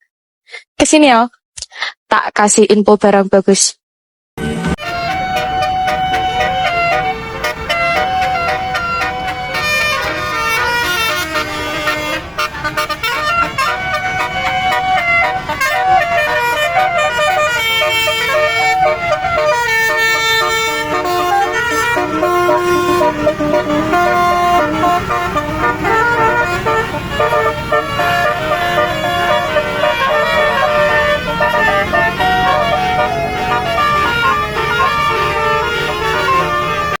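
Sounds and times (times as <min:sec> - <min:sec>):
bus horn playing a melody: 0:04.8 - 0:37.0.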